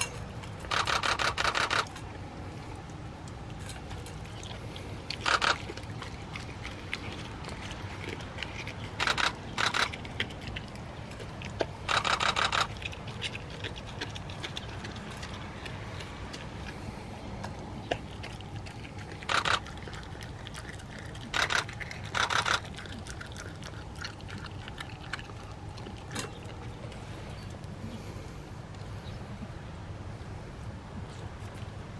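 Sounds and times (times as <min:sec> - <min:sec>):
dog chewing meat: 0:00.2 - 0:27.8.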